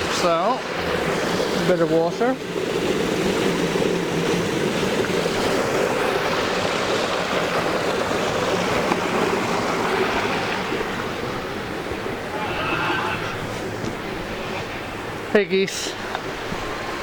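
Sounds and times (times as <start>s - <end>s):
water rushing at mill wheel: 0.0s - 17.0s.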